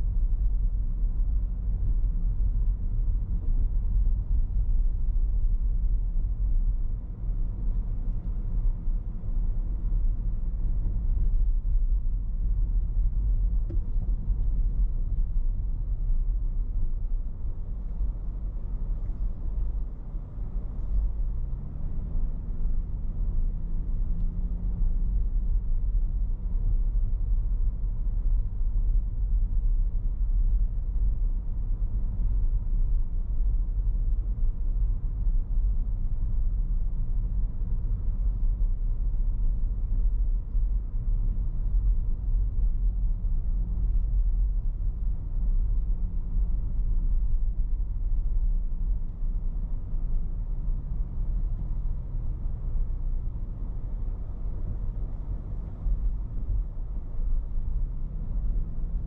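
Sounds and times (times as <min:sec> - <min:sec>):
car road and wind rumble: 0:00.0 - 0:59.0.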